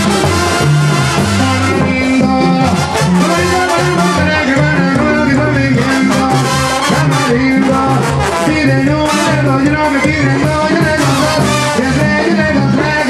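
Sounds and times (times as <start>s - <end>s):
brass and drums band music: 0.0s - 13.0s
man singing into a microphone: 0.0s - 13.0s.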